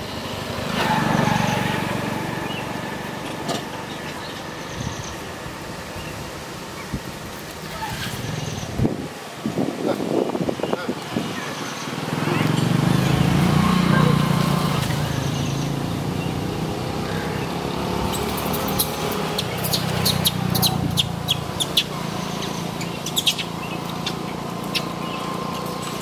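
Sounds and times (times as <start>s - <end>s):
birds chirping: 1.2s - 8.9s, 10.2s - 26.0s.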